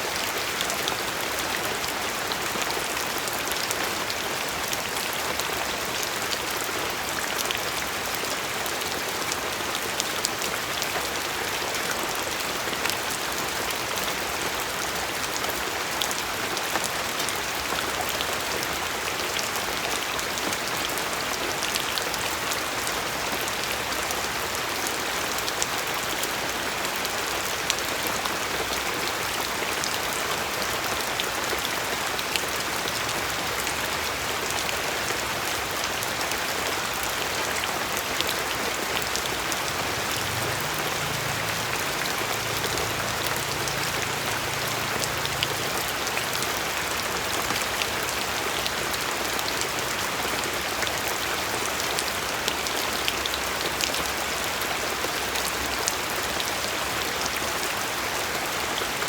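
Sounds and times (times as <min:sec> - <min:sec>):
steady rain hiss: 0:00.0 - 0:59.0
raindrops pattering on surface: 0:00.1 - 0:59.0.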